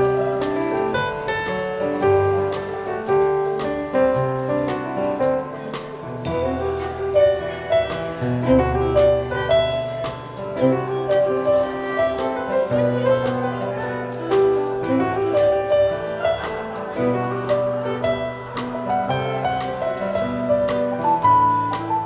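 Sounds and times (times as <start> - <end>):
fiddle melody: 0.0 - 22.0
piano chords: 0.0 - 22.0.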